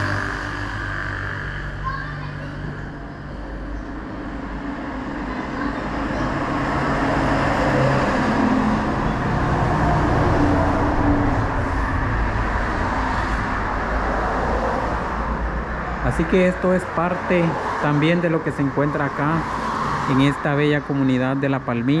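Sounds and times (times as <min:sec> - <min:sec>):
vehicle engine and tyres: 0:00.0 - 0:22.0.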